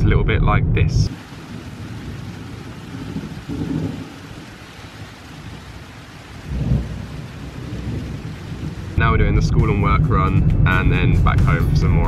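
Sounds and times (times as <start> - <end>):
thunder rumbles: 0.6 - 12.0
steady rain: 1.0 - 12.0.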